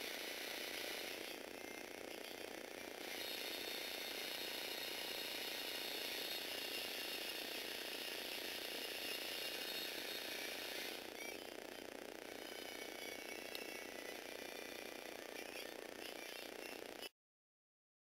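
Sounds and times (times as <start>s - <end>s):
electric motor whirring gears: 0.0s - 17.1s.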